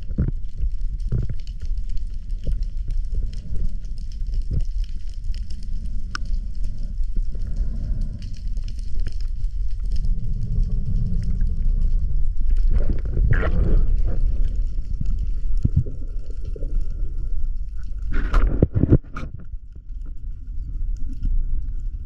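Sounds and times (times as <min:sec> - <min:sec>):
low underwater rumble: 0:00.0 - 0:22.0.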